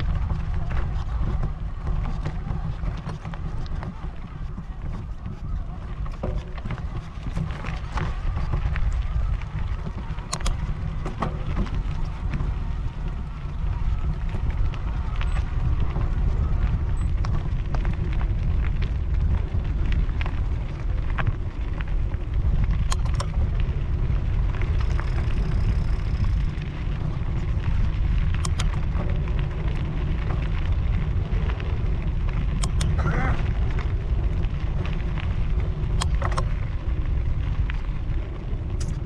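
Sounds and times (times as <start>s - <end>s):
bike tyres crackling on gravel: 0.0s - 39.0s
wind buffeting microphone: 0.0s - 39.0s.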